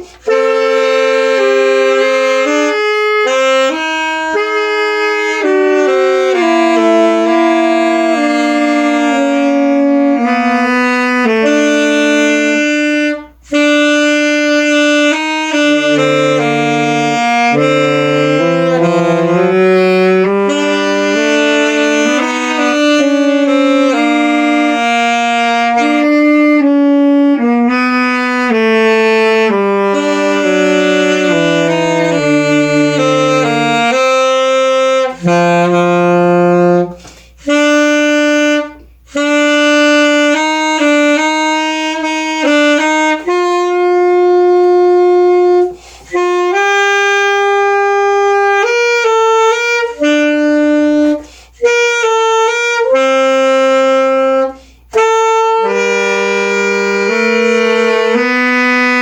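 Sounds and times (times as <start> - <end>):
saxophone melody: 0.0 - 59.0.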